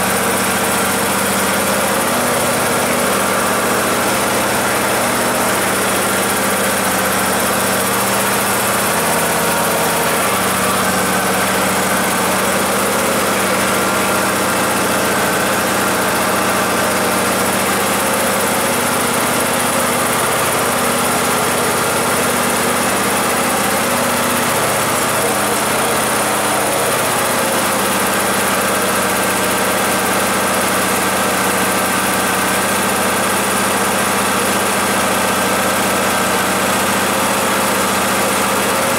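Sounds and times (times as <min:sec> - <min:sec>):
garden tractor engine idling: 0:00.0 - 0:38.9.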